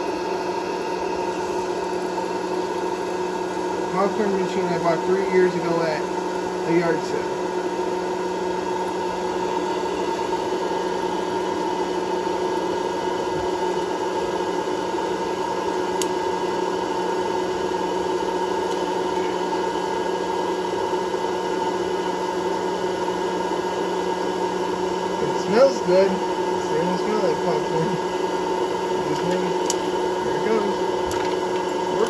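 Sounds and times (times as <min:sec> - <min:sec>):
popcorn maker fan whirring: 0:00.0 - 0:32.0.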